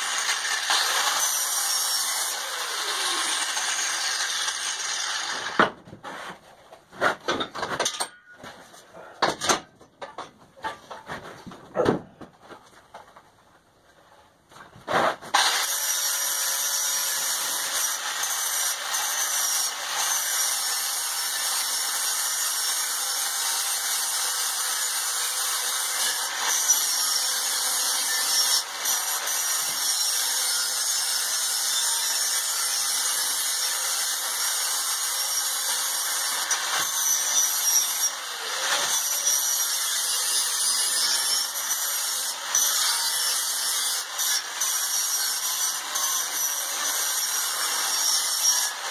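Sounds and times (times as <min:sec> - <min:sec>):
angle grinder grinding metal: 0:00.0 - 0:05.7, 0:15.3 - 0:48.9.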